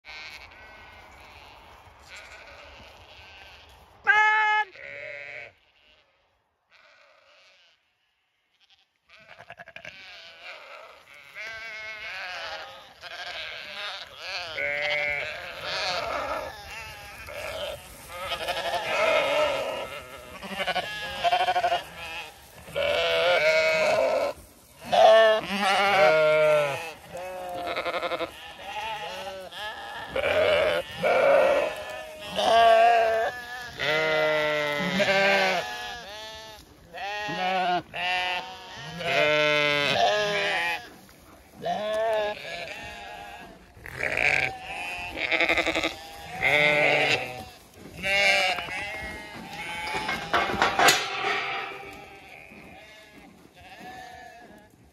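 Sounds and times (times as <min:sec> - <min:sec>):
sheep bleating: 0:00.0 - 0:54.8.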